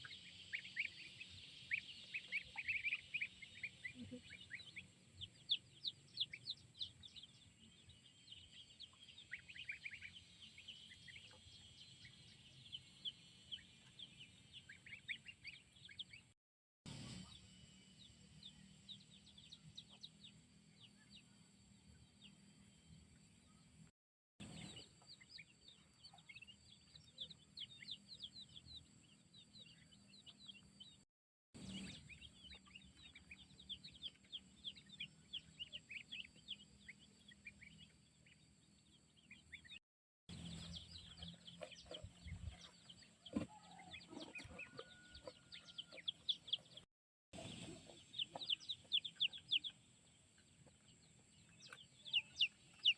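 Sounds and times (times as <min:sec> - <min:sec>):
chickens chirping: 0:00.0 - 0:16.4, 0:24.4 - 0:31.0, 0:31.6 - 0:52.9.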